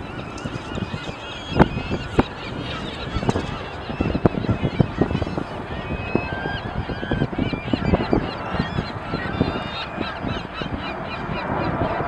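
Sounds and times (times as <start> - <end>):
flock of gulls calling: 0.0 - 12.0
wind buffeting microphone: 0.0 - 12.0.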